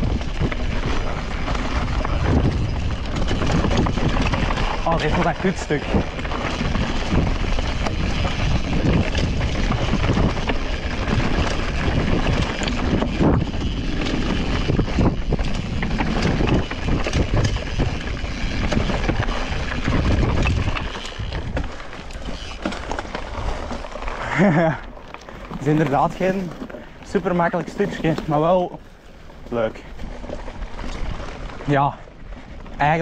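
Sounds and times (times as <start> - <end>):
bike frame rattling: 0.0 - 33.0
bike tyre rumble: 0.0 - 33.0
wind buffeting microphone: 0.0 - 33.0.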